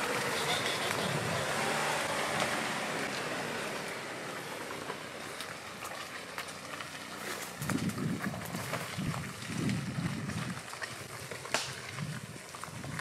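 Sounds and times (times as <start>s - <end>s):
car engine running low: 0.0s - 13.0s
tyres crackling over mud and twigs: 0.0s - 13.0s.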